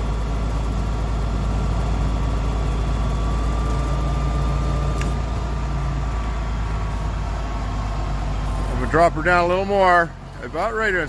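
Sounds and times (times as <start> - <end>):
stump grinder engine running: 0.0 - 11.0.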